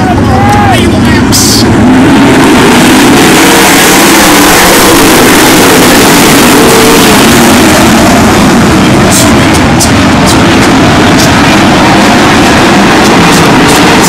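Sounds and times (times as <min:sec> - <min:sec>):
racing car engines roaring: 0:00.0 - 0:14.0.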